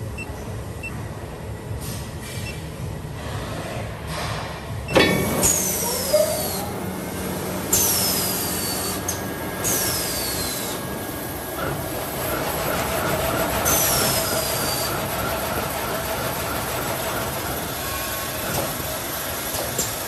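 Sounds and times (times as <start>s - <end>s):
machine motor hum: 0.0s - 20.0s.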